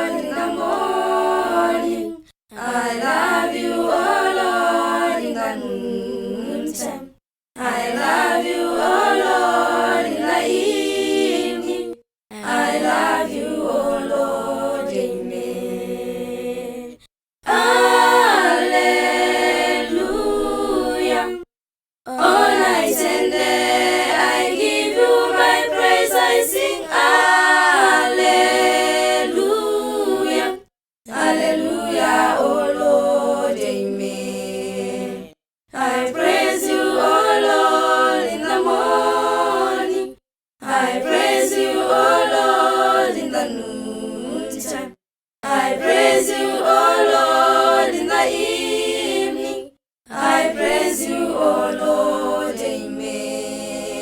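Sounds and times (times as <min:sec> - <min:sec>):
choir singing a hymn: 0:00.0 - 0:21.5, 0:22.1 - 0:54.0.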